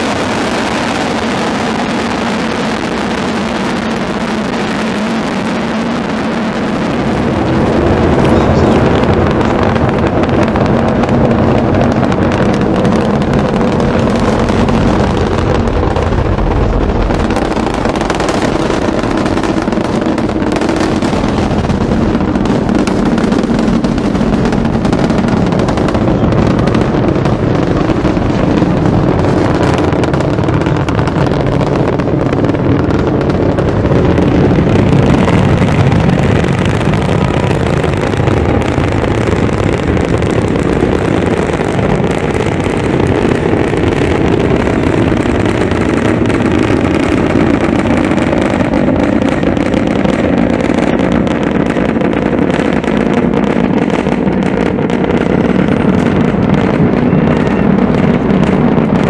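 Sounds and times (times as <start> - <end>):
rocket launch roar: 0.0 - 59.0.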